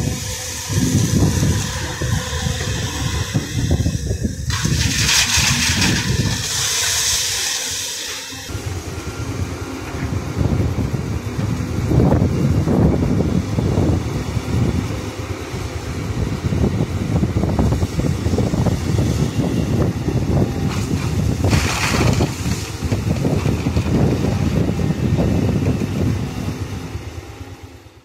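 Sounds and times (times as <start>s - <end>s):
wind buffeting microphone: 0.0s - 7.4s, 8.5s - 27.6s
diesel engine running: 0.0s - 28.0s.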